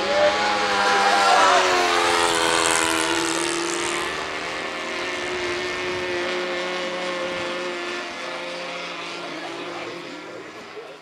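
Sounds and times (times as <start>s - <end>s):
model aeroplane motor droning: 0.0s - 11.0s.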